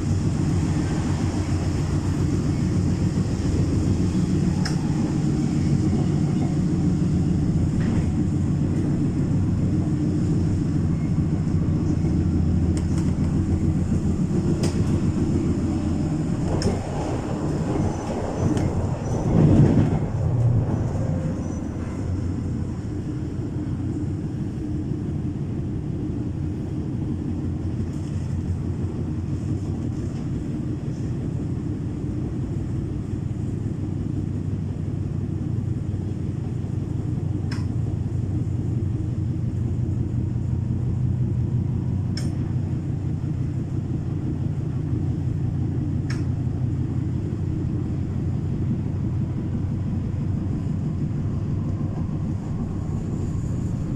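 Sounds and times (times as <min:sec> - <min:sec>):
electric train rumble and hum: 0:00.0 - 0:53.9.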